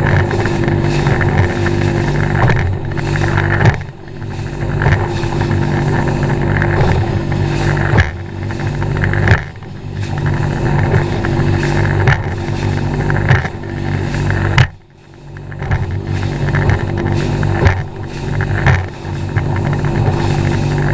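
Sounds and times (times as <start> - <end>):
hull slapping into waves: 0.0 - 20.9
outboard engine humming: 0.0 - 20.9
water rushing: 0.0 - 20.9.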